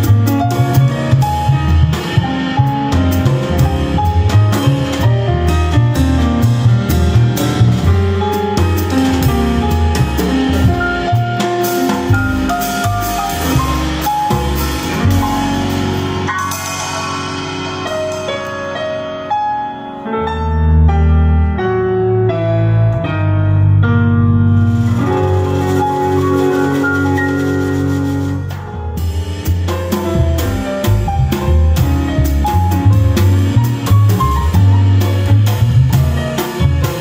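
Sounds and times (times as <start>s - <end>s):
plucked double bass: 0.0s - 19.2s, 20.1s - 37.0s
drum kit playing: 0.0s - 20.4s, 24.0s - 37.0s
grand piano: 0.0s - 37.0s.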